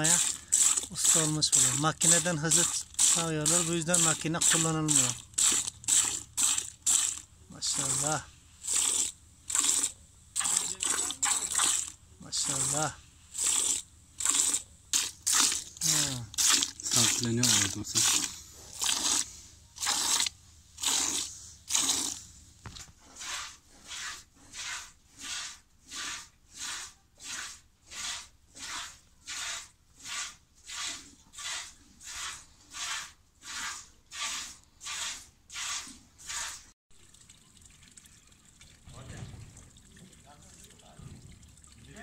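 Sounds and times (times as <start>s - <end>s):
milk squirting into bucket: 0.0s - 42.0s.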